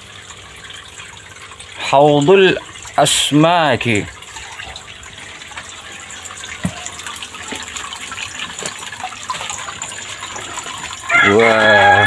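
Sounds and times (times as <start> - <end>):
water running into pond: 0.0 - 12.0.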